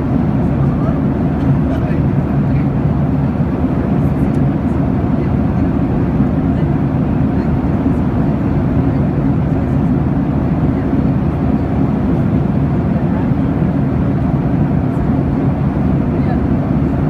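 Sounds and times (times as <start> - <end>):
airliner cabin engine hum: 0.0 - 17.0.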